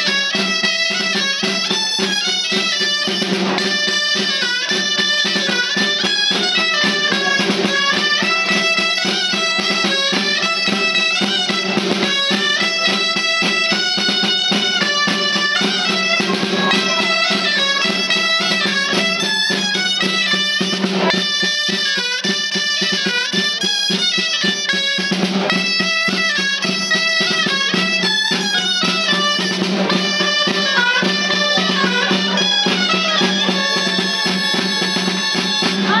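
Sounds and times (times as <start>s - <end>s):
drum beating time: 0.0s - 36.0s
reed shawms playing a melody: 0.0s - 36.0s.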